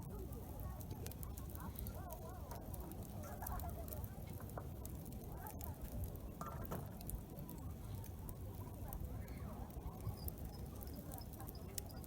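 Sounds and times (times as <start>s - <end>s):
campfire crackling and popping: 0.0s - 12.0s
faint chatter of people: 0.0s - 12.0s.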